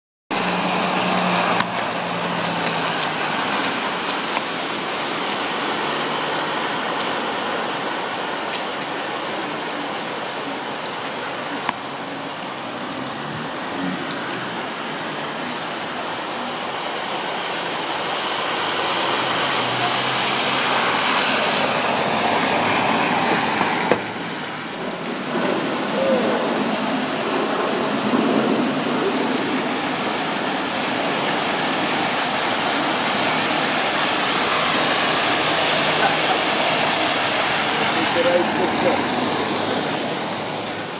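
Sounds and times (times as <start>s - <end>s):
heavy rain: 0.3s - 40.9s
running floodwater: 0.3s - 40.9s.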